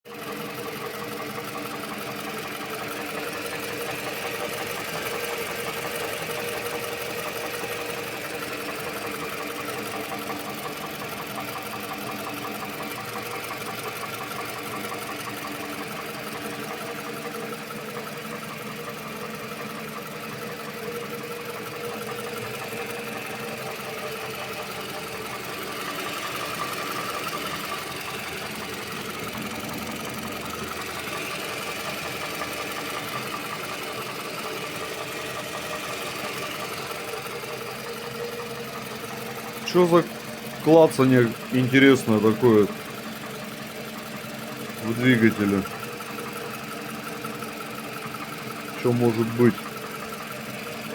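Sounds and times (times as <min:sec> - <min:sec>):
car engine idling: 0:00.1 - 0:50.9
rapid clacking inside engine: 0:00.1 - 0:50.9.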